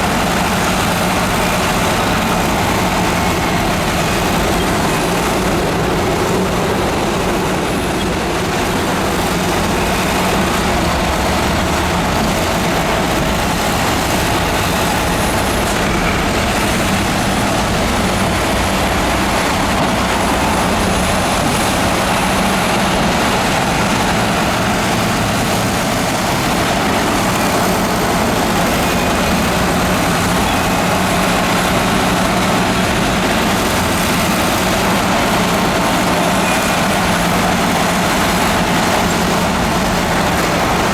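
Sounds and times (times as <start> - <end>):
heavy diesel machinery engine: 0.0 - 40.9.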